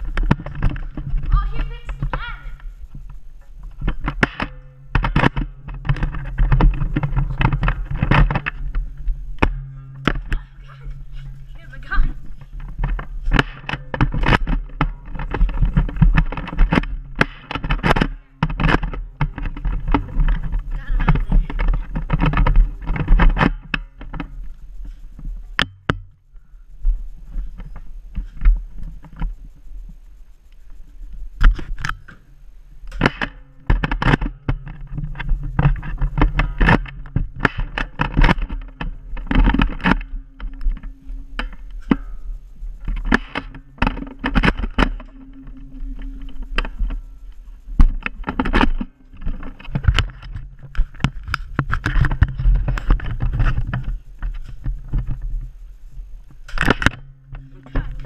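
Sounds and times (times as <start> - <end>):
sharp knocks and thumps: 0.0 - 29.4, 32.8 - 55.6, 56.2 - 58.0
camera handling rumble: 0.0 - 58.0.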